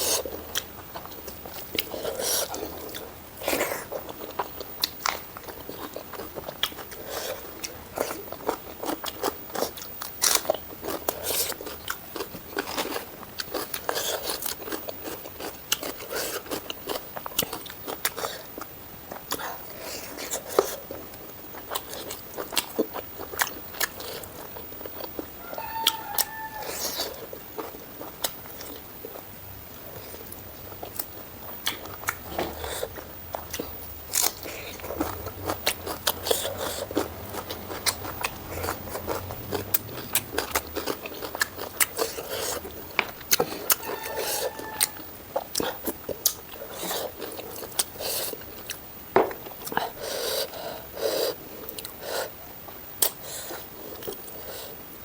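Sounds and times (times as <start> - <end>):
person chewing and crunching: 0.0 - 54.8.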